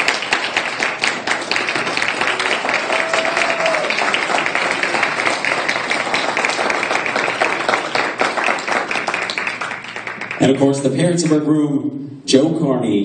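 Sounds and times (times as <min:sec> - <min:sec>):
crowd clapping: 0:00.0 - 0:11.5.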